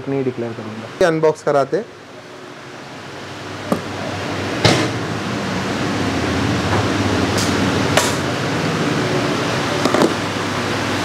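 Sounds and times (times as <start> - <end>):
rushing room noise: 0.0 - 11.0.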